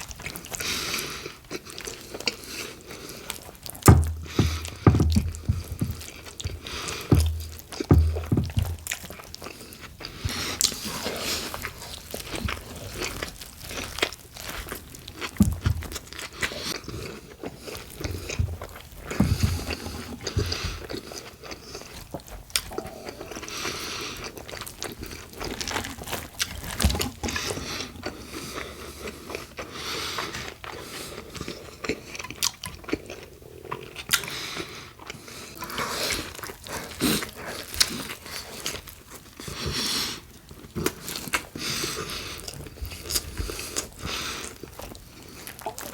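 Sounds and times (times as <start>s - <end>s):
crunchy sandwich biting and chewing: 0.0s - 45.9s.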